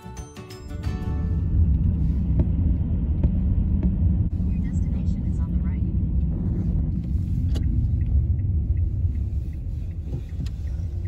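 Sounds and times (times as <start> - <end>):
car driving rumble: 0.6 - 11.0.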